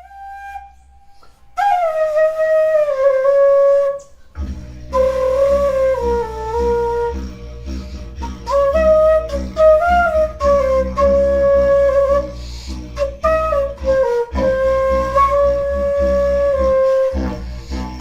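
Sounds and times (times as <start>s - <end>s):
wind instrument melody: 0.0s - 18.0s
low bass: 1.9s - 18.0s
busy instrumental accompaniment: 2.6s - 18.0s.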